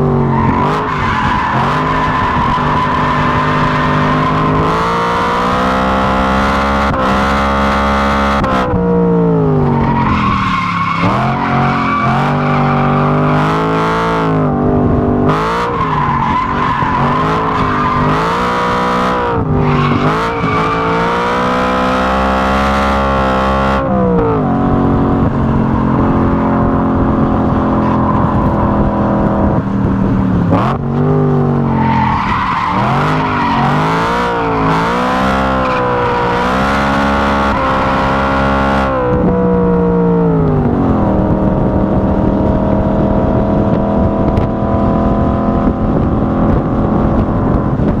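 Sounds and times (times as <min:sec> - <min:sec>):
car engine revving at speed: 0:00.0 - 0:48.0.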